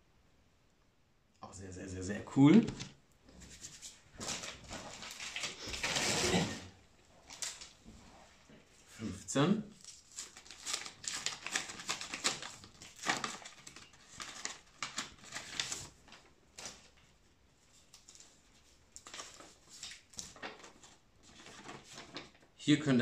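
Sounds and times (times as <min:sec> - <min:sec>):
paper rustling and crinkling: 0:02.6 - 0:09.0, 0:09.7 - 0:22.6.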